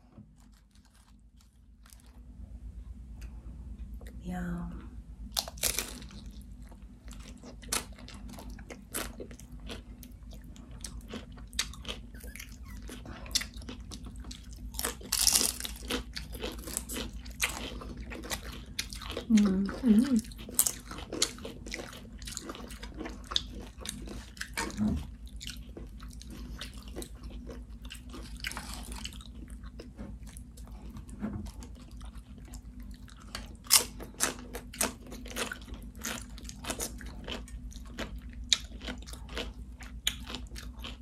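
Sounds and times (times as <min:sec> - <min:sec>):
chewing crunchy chips: 0:00.0 - 0:02.3, 0:05.3 - 0:41.0
steady low hum: 0:00.0 - 0:41.0.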